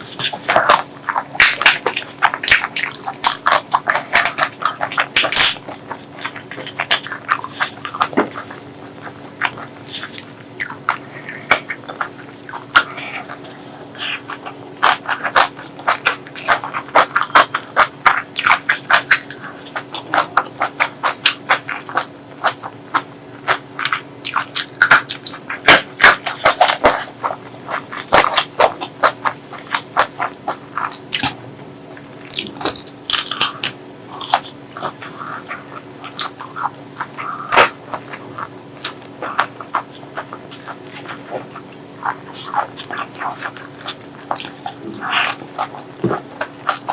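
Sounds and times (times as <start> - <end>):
wet chewing: 0.0 - 46.9.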